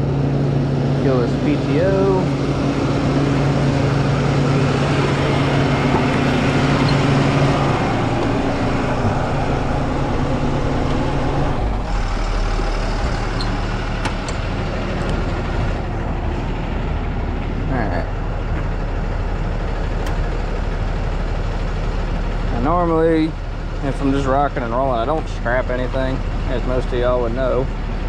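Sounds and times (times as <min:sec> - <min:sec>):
diesel engine humming: 0:00.0 - 0:28.0
engine idling low rumble: 0:00.0 - 0:28.0.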